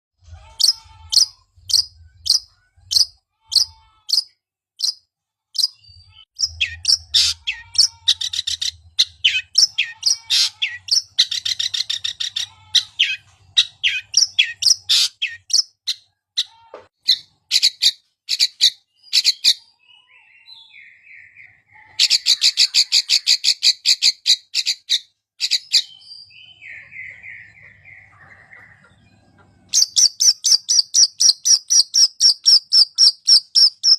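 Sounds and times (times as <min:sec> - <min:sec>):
bird song high chirps: 0:00.4 - 0:33.9.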